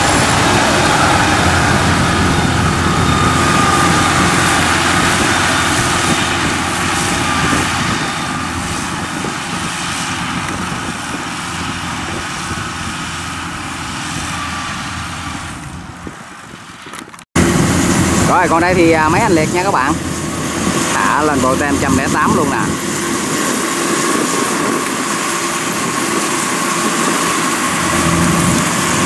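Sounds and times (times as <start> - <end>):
tracked carrier engine running: 0.0 - 29.0.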